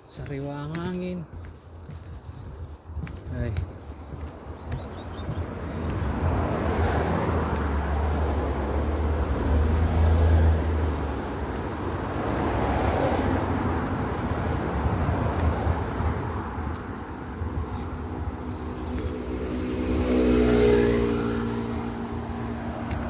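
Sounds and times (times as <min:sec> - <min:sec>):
vehicles passing on road: 0:00.0 - 0:23.0.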